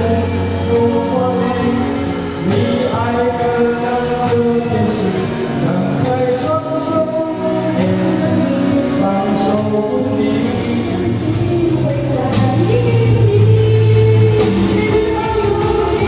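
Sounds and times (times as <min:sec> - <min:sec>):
man singing into a microphone: 0:00.0 - 0:16.0
musical accompaniment: 0:00.0 - 0:16.0.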